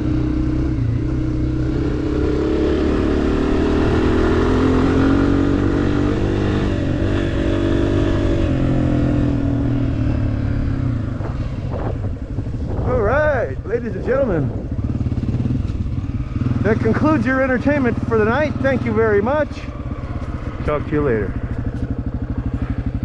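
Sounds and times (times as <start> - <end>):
dirt bike engine running hard: 0.0 - 23.0.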